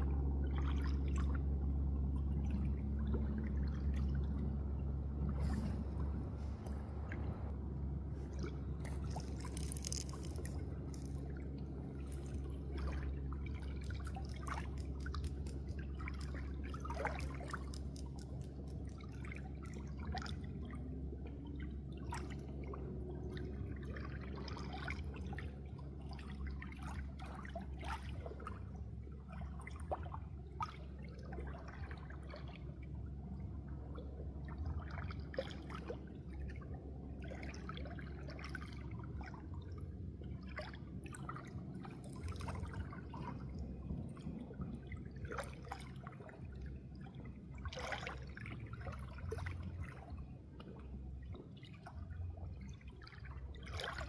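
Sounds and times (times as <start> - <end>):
steady low hum: 0.0 - 54.0
water trickling and dripping: 0.4 - 54.0.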